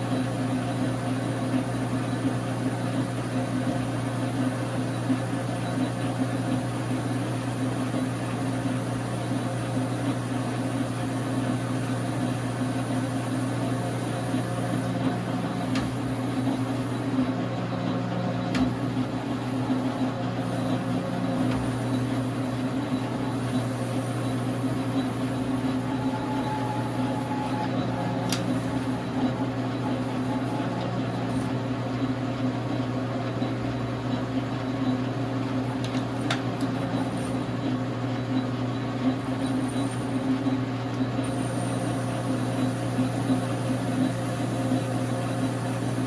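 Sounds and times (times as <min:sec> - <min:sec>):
lathe motor humming: 0:00.0 - 0:46.0.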